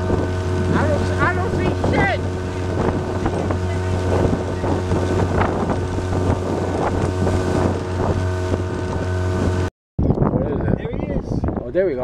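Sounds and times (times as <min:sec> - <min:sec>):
water splashing against hull: 0:00.0 - 0:10.3
outboard motor running: 0:00.0 - 0:10.8
wind on microphone: 0:00.0 - 0:12.0.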